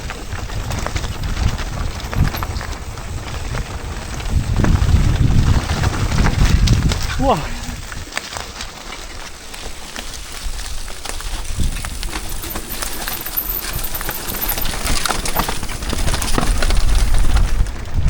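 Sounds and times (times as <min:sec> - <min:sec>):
bicycle rattling over rough ground: 0:00.0 - 0:18.0
wind rumble on microphone: 0:00.0 - 0:18.0.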